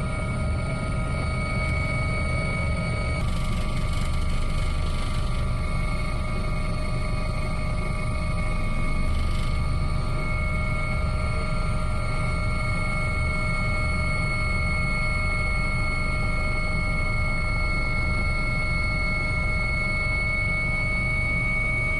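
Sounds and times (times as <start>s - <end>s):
aircraft engine running: 0.0s - 21.9s.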